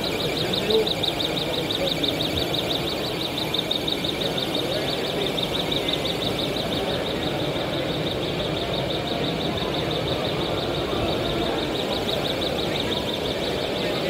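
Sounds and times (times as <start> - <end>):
busy exhibition hall din: 0.0 - 14.0
rapid high-pitched beeping: 0.0 - 14.0.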